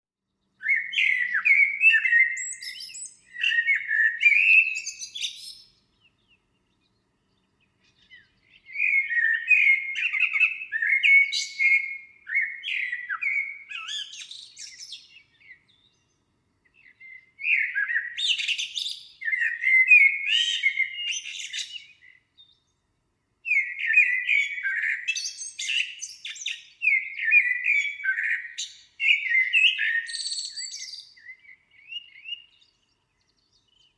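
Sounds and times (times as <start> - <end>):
songbird chirping: 0.2 - 33.9.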